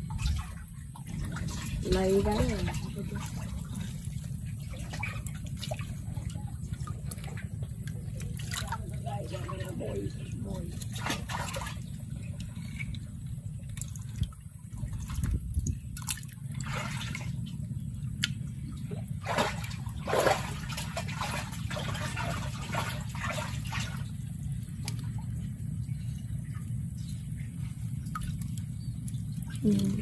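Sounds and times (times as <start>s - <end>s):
shallow water splashing: 0.0s - 30.0s
steady low rumble: 0.0s - 30.0s.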